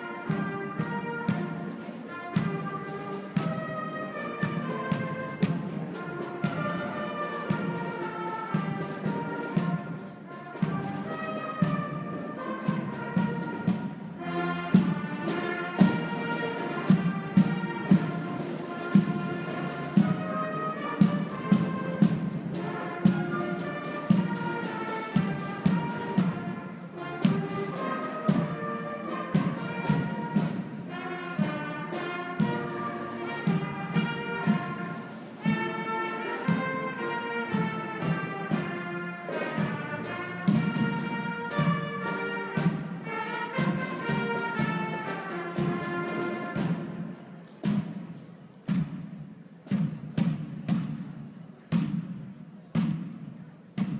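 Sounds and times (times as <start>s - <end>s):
brass instruments playing a march: 0.0s - 48.0s
steady drum beat: 0.0s - 53.9s.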